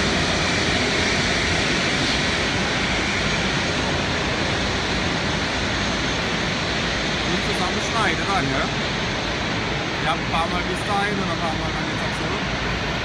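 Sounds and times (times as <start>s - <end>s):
jet engines at taxi power: 0.0s - 13.0s.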